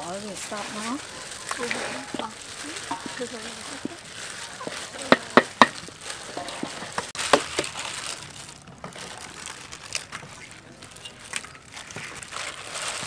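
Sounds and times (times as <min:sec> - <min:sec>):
plastic gloves crinkling: 0:00.0 - 0:13.0
raw meat squishing: 0:00.0 - 0:13.0.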